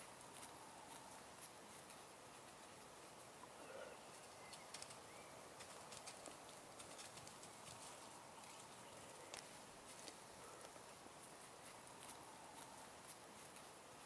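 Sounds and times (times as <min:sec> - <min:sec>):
faint scattered clicks: 0:00.0 - 0:13.8.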